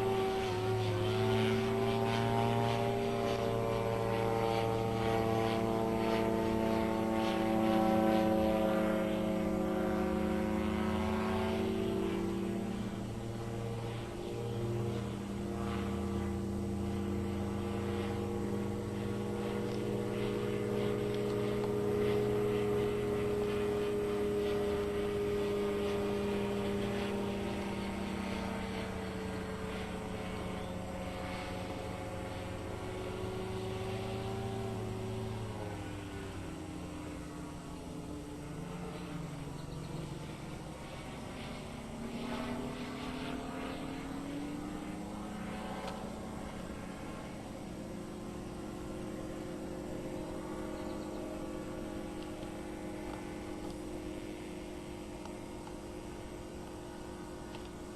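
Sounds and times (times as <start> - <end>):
propeller aircraft engine: 0.0 - 57.9.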